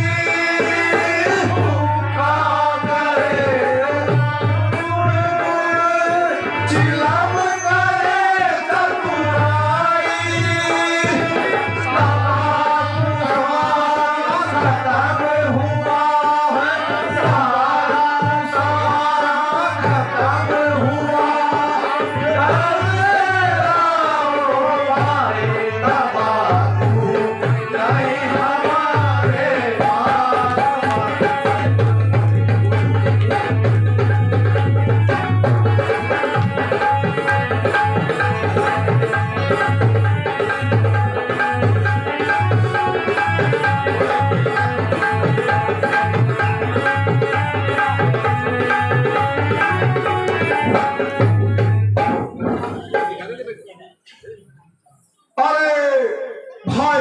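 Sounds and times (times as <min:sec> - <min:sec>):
tabla drumming: 0:00.0 - 0:54.2, 0:56.2 - 0:57.0
instruments holding steady notes: 0:00.0 - 0:55.2.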